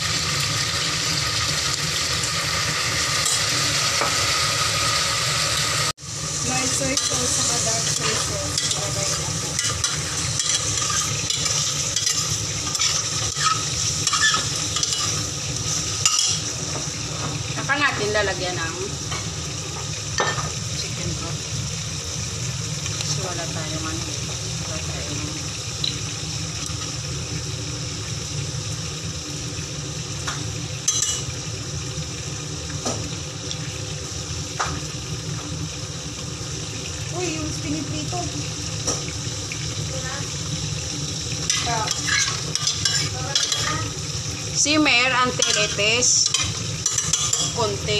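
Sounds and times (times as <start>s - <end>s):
food sizzling in a pot: 0.0s - 47.9s.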